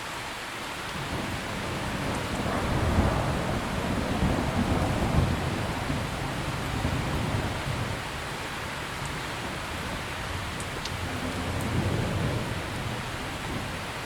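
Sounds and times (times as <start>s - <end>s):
steady rain: 0.0s - 14.0s
rolling thunder: 0.9s - 14.0s.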